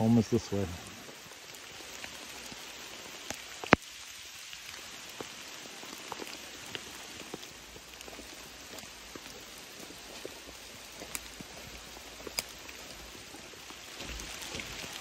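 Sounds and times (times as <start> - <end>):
rain falling on foliage: 0.0 - 15.0.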